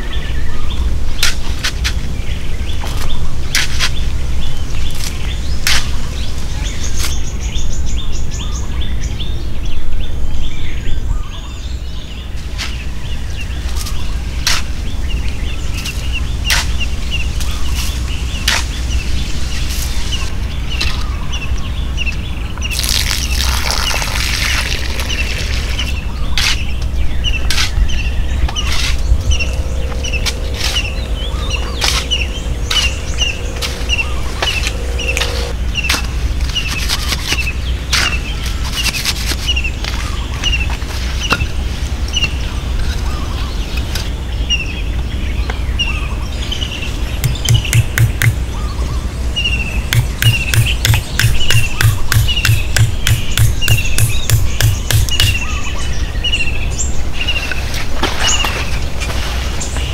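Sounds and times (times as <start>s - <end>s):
bird chirping: 2.1s - 36.0s, 42.1s - 57.6s.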